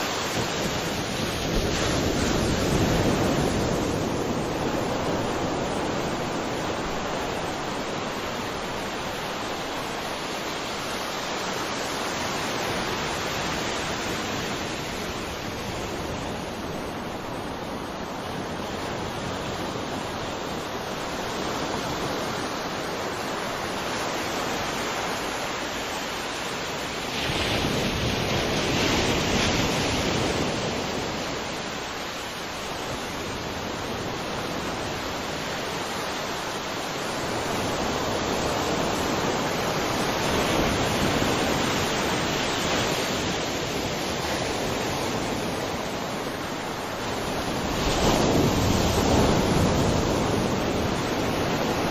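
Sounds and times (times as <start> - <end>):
sea waves washing: 0.0 - 51.9.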